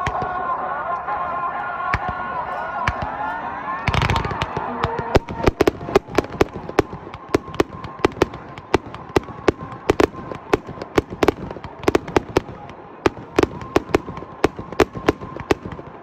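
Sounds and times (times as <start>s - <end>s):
fireworks bangs and cracks: 0.0s - 0.5s, 1.9s - 16.0s.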